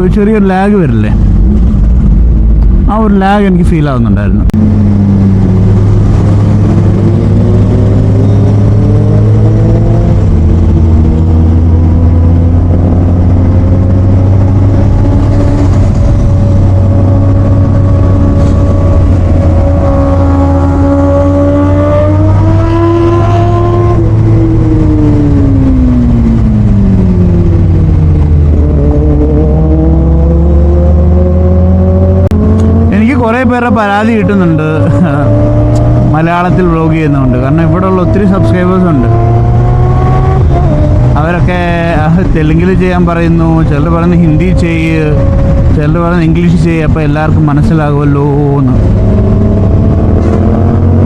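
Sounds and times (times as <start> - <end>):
motorcycle engine revving: 4.5 - 51.0.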